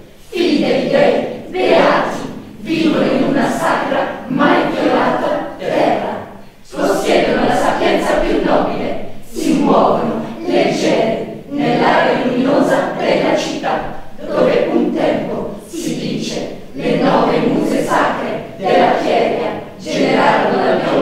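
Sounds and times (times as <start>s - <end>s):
chorus singing: 0.0s - 21.0s.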